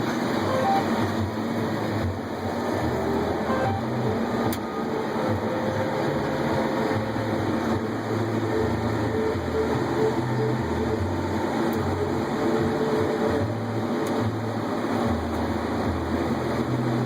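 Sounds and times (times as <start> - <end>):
combine harvester droning: 0.0 - 17.0.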